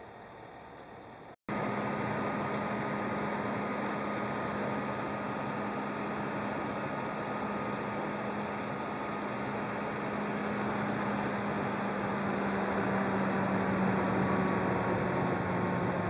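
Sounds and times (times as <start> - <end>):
faint high fan whine: 0.0 - 16.0
quiet fan whir: 0.0 - 16.0
radiator fan rushing air: 0.0 - 16.0.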